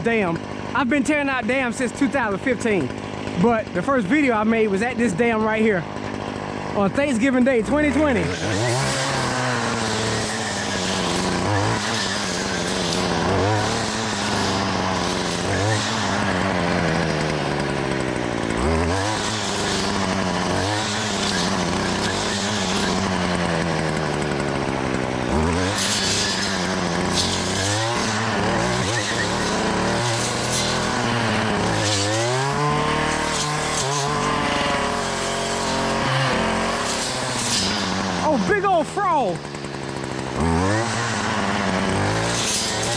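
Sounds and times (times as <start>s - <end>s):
brush cutter engine revving: 0.0s - 42.9s.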